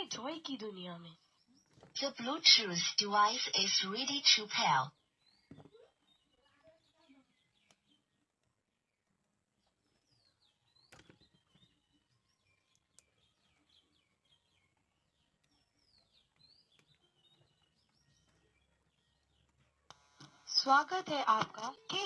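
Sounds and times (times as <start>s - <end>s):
faint bird chirps: 0.8s - 22.0s.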